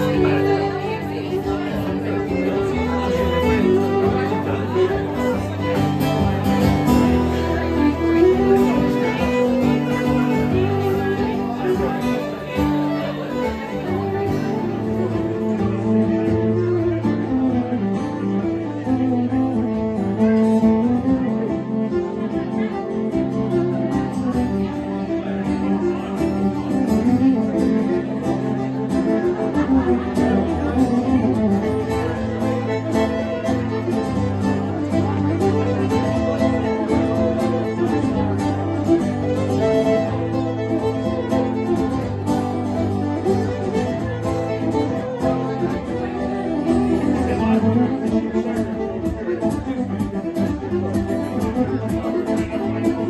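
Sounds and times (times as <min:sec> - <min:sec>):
fiddle melody: 0:00.0 - 0:53.0
strummed acoustic guitar: 0:00.0 - 0:53.0.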